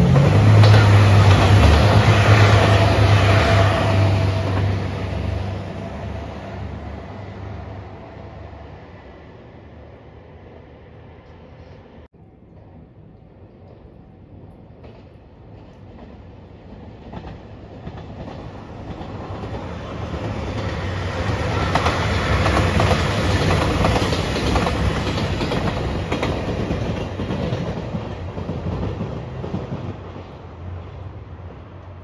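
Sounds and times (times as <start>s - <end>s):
diesel train passing at speed: 0.0s - 32.0s.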